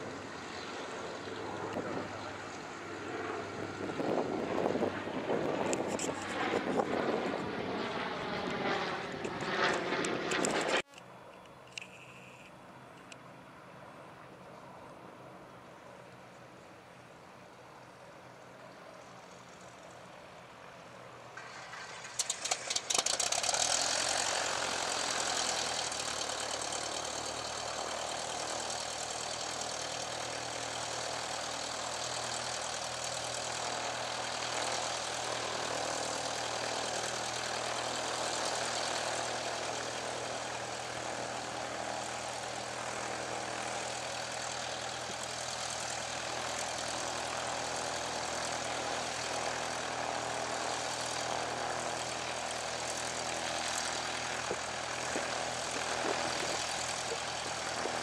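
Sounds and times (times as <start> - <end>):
propeller engine idling: 0.0 - 58.0.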